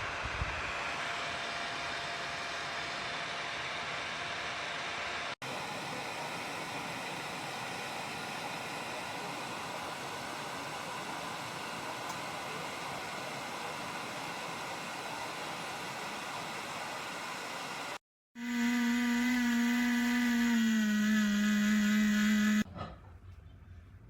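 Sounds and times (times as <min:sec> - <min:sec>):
fan heater air rush: 0:00.0 - 0:22.7
heater motor hum: 0:00.0 - 0:22.7.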